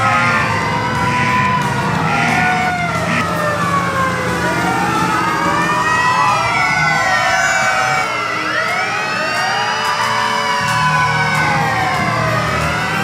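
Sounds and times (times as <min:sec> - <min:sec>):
fire truck sirens wailing: 0:00.0 - 0:13.0.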